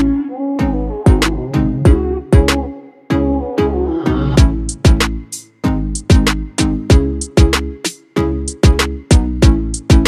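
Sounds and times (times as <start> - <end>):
sustained bass notes: 0.0 - 10.0.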